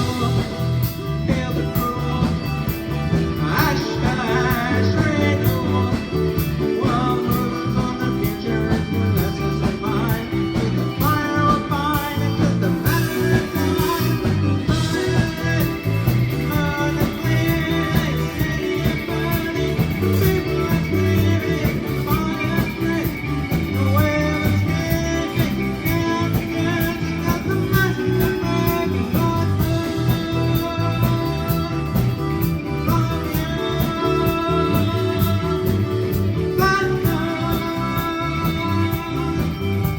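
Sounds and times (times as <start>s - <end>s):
guitar: 0.0s - 39.9s
live band playing: 0.0s - 39.9s
person singing: 0.0s - 39.9s.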